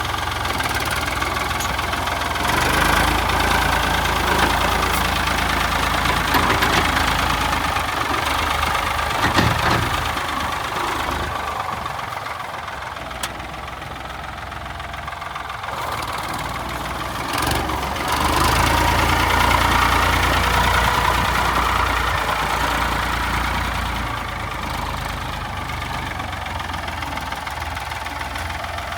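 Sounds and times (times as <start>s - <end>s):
tractor diesel engine idling: 0.0s - 28.9s.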